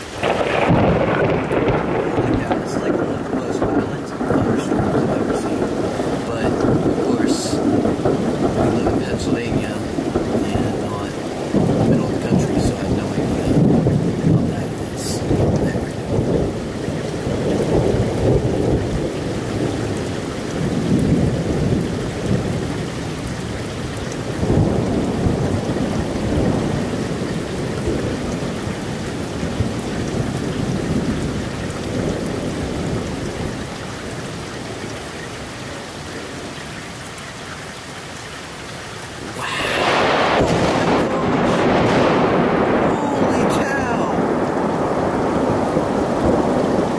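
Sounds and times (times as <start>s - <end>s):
loud thunderclap: 0.0s - 33.7s, 39.3s - 46.9s
thunder rumbling: 0.0s - 36.6s, 39.2s - 46.9s
heavy rain: 0.0s - 46.9s.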